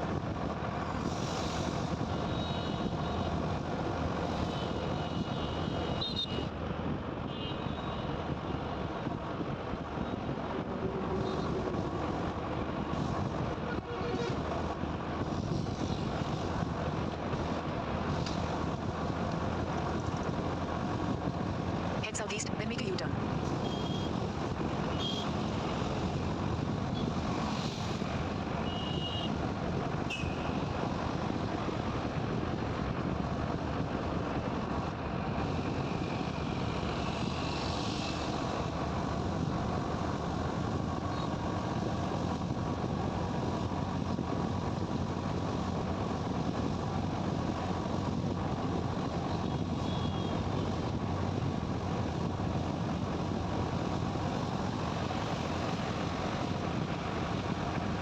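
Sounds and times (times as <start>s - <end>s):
motorcycle riding on highway: 0.0s - 22.2s, 22.8s - 58.0s.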